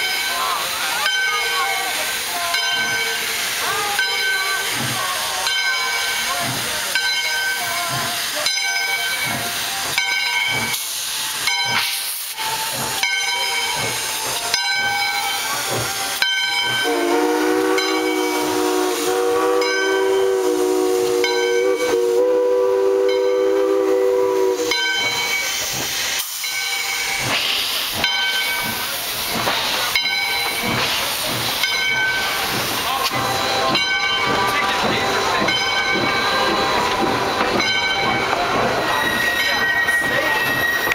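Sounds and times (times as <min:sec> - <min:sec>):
steam hissing: 0:00.0 - 0:40.9
locomotive exhaust beats: 0:00.6 - 0:40.9.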